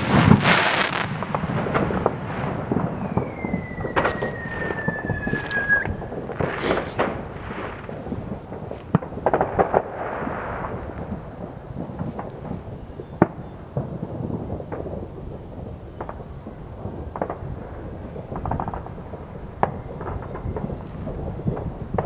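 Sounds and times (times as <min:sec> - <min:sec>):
fireworks booms and bangs: 0:00.0 - 0:22.0
fireworks crackling bursts: 0:00.0 - 0:22.0.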